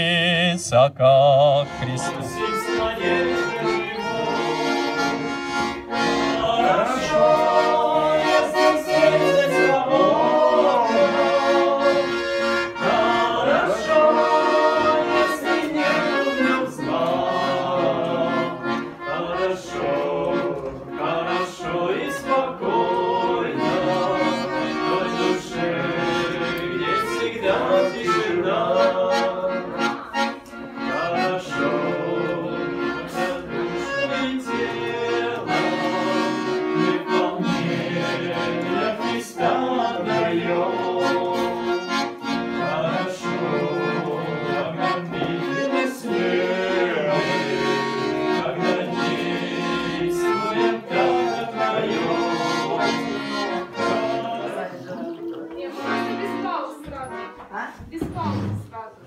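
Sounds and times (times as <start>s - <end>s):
accordion playing hymn tune: 0.0s - 59.0s.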